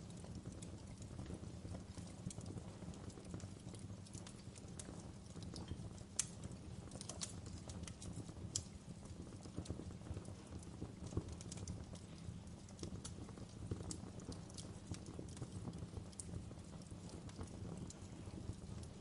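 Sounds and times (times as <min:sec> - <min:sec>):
log fire crackling and popping: 0:00.0 - 0:19.0.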